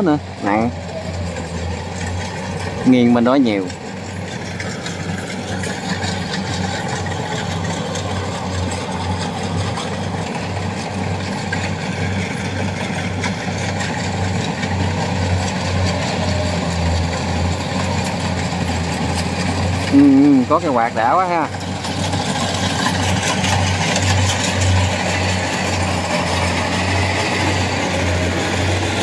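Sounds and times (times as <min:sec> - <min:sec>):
combine harvester diesel engine: 0:00.0 - 0:29.0.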